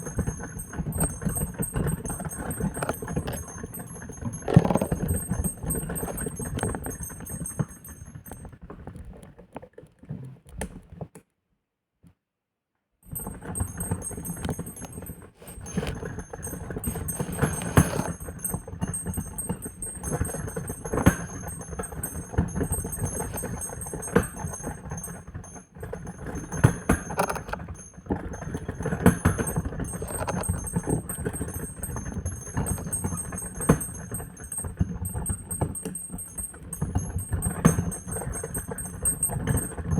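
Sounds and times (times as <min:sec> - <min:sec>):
swinging bells clanging: 0:00.0 - 0:08.4, 0:13.2 - 0:39.9.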